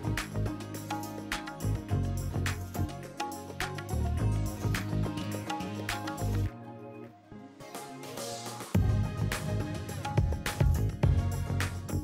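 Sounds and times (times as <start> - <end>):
background music with deep bass: 0.0 - 12.0.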